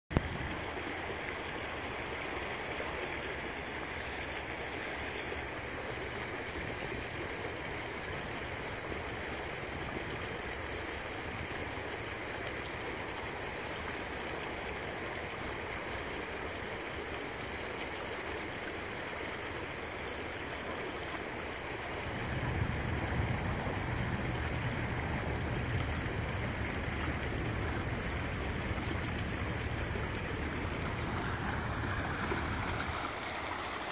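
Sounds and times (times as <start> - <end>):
stream flowing over stones: 0.1 - 33.9.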